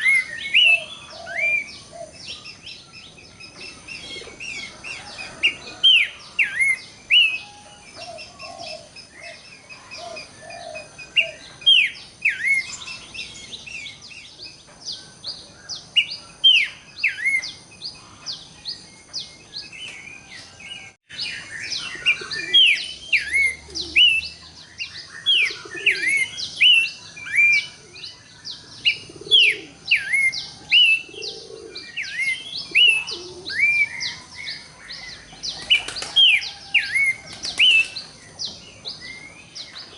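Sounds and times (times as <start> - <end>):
low mellow bird notes: 0.0 - 39.9.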